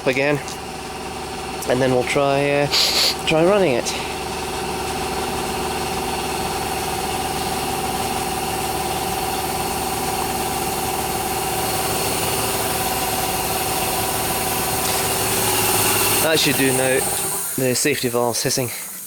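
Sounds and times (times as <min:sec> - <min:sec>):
air compressor running: 0:00.0 - 0:19.0.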